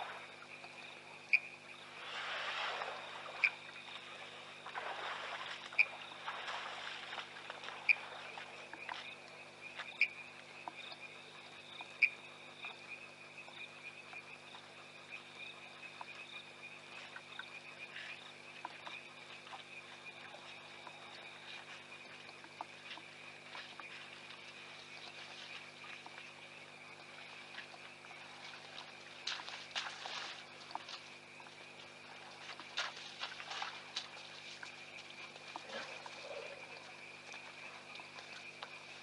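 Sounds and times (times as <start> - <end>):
frogs trilling: 0.0 - 2.0, 2.9 - 39.0.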